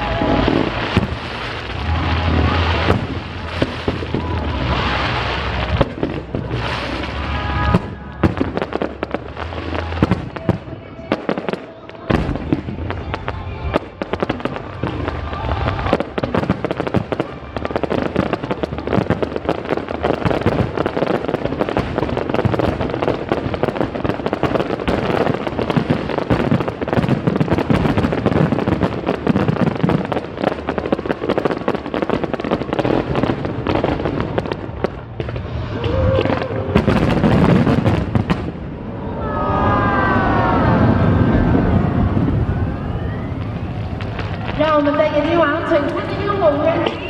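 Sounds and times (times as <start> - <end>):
aerial fireworks bangs and crackling: 0.0 - 47.0.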